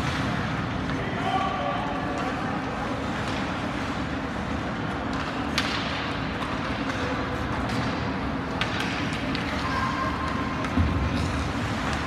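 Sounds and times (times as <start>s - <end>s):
arena noise: 0.0s - 12.0s.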